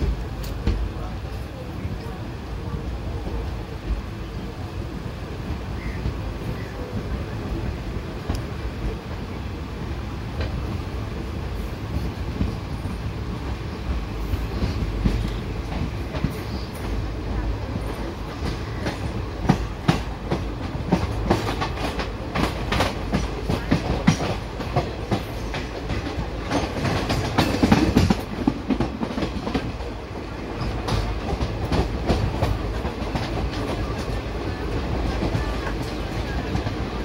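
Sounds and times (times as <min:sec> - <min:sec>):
train low rumble: 0:00.0 - 0:37.0.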